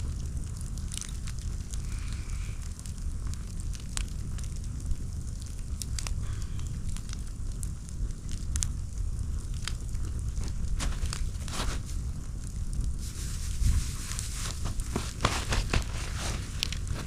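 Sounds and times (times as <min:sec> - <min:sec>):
wood campfire crackling: 0:00.0 - 0:17.0.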